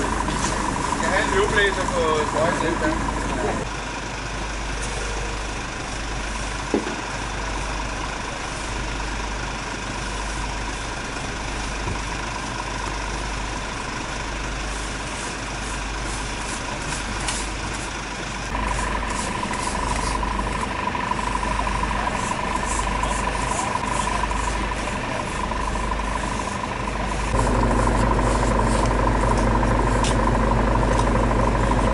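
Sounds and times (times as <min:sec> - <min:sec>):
diesel engine idling: 0:00.0 - 0:31.9
steady high whine: 0:00.0 - 0:31.9.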